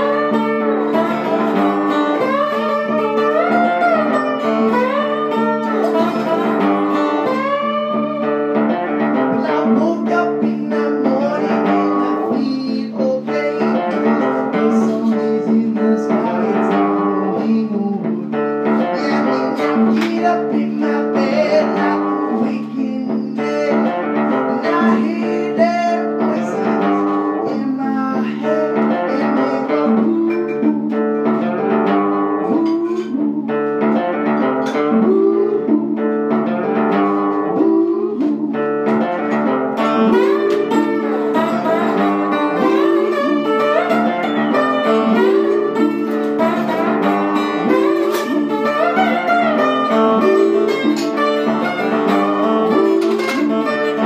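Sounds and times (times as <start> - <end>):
bluesy guitar playing: 0.0 - 54.0.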